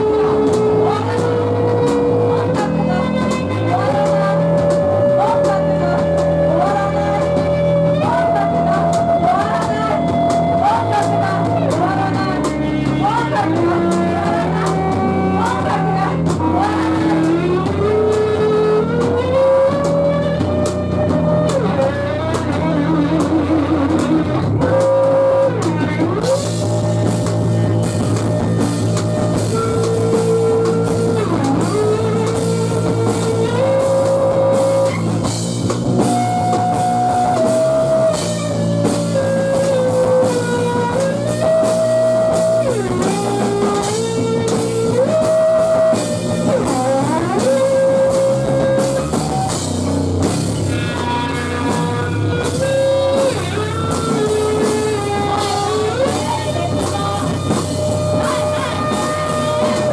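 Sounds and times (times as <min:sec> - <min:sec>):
bass guitar: 0:00.0 - 0:59.9
drum kit: 0:00.0 - 0:59.9
electric guitar: 0:00.0 - 0:59.9
sliding lead melody: 0:00.0 - 0:59.9.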